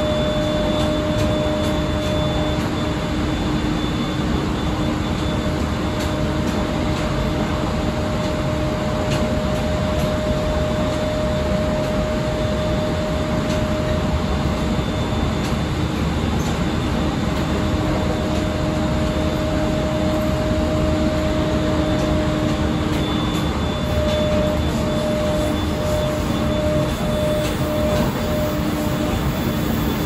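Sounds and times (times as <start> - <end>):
steady hum: 0.0 - 30.0
train wheels rumbling on rail: 0.0 - 30.0.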